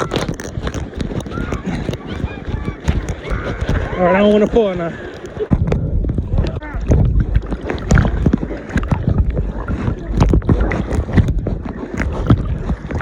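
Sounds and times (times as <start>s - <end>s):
water splashing and sloshing: 0.0s - 13.0s
wind rumble on microphone: 0.0s - 13.0s.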